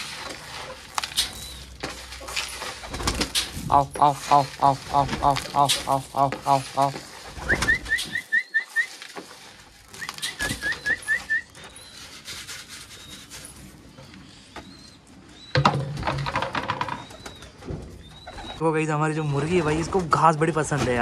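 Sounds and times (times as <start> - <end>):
birds chirping: 0.0 - 9.0, 9.9 - 20.8.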